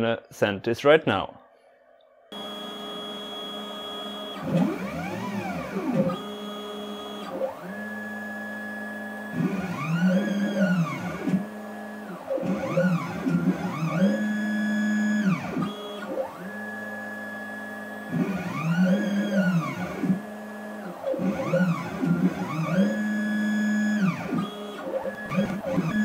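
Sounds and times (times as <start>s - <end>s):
steady quieter motor tone: 2.3s - 26.0s
stepper motor whine: 2.3s - 26.0s.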